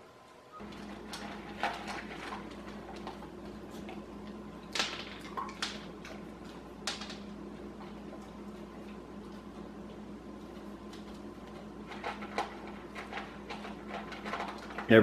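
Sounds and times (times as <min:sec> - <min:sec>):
dog crunching kibble: 0:00.6 - 0:15.0.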